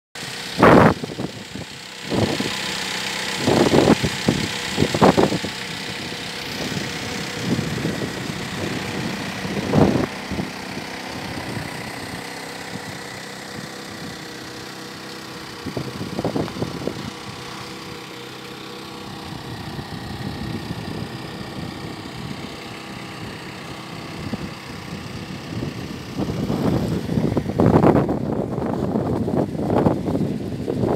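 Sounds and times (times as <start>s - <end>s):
engine idling: 0.2s - 30.9s
wind buffeting microphone: 3.3s - 14.3s, 15.6s - 18.0s, 19.1s - 30.9s.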